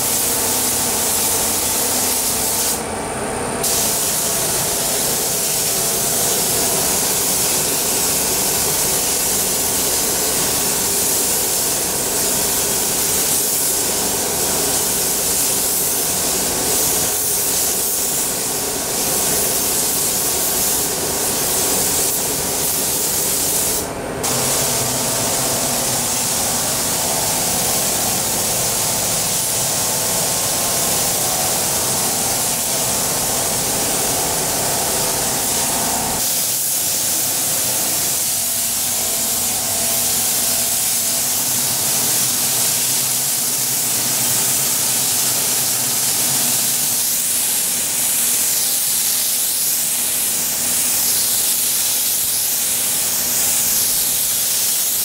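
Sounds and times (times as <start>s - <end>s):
paint spray gun hissing: 0.0s - 2.9s, 3.6s - 55.0s.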